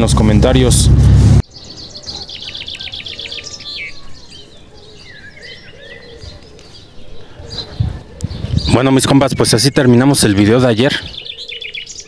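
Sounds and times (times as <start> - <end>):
small birds chirping: 1.4 - 12.0.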